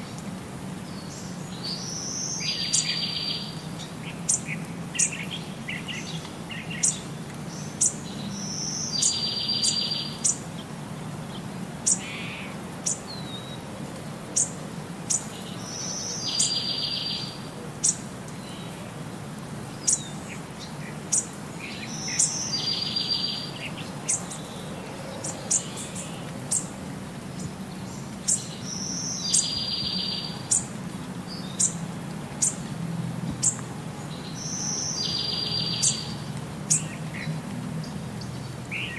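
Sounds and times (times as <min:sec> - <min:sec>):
birds chirping: 0:00.8 - 0:13.7, 0:14.3 - 0:19.0, 0:19.6 - 0:32.7, 0:33.3 - 0:38.9.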